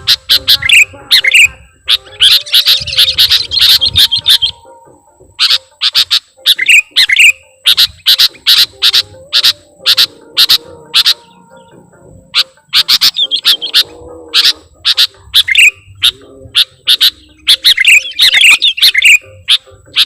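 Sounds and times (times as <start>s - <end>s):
bird chirping and whistling: 0.0s - 20.0s.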